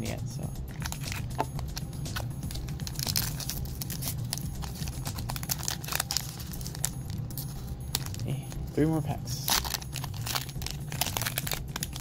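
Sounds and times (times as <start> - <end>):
low steady hum: 0.0 - 12.0
foil wrapper crinkling and tearing: 0.7 - 8.7, 9.3 - 12.0.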